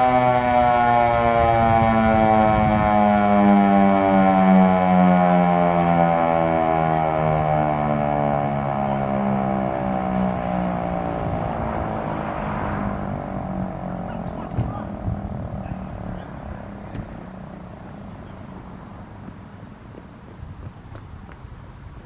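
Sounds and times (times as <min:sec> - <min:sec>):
siren winding down: 0:00.0 - 0:19.2.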